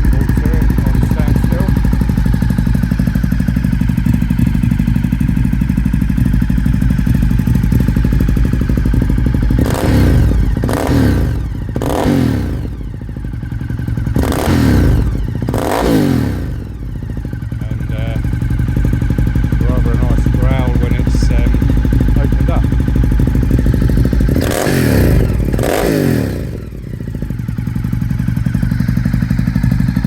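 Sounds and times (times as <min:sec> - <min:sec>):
motorcycle engine idling: 0:00.0 - 0:30.0
motorcycle throttle blips: 0:00.0 - 0:30.0.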